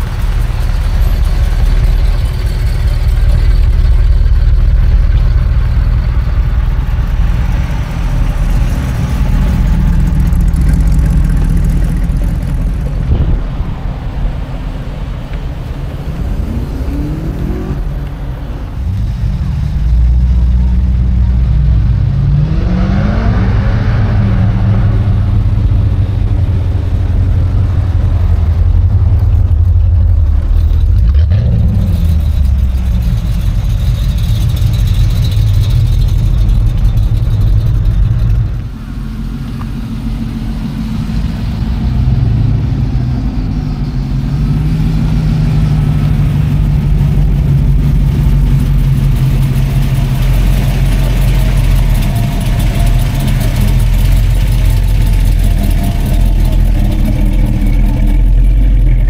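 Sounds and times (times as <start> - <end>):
car engines driving past: 0.0 - 59.0
engine revving: 0.0 - 59.0.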